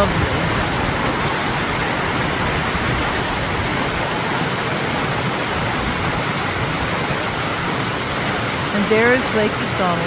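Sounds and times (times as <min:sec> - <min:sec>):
creek rushing over rocks: 0:00.0 - 0:10.0.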